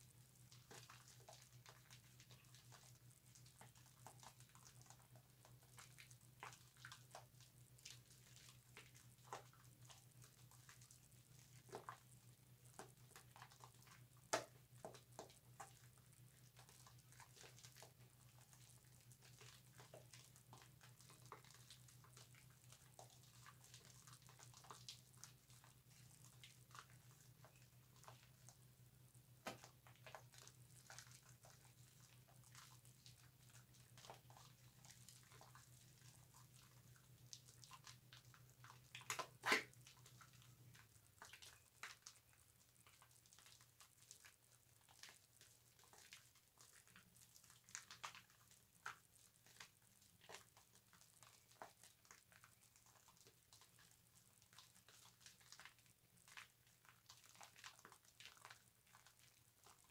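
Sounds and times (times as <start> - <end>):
soap lather crackling on loofah: 0.0 - 59.9.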